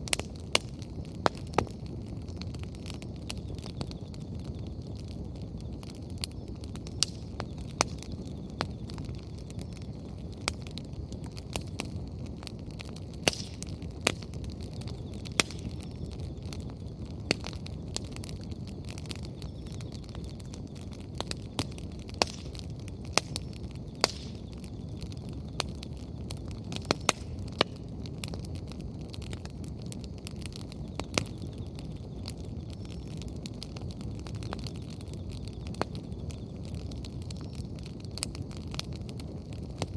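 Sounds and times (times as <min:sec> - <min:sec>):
low rushing noise of fire: 0:00.0 - 0:39.9
wood fire crackling and popping: 0:00.0 - 0:39.9.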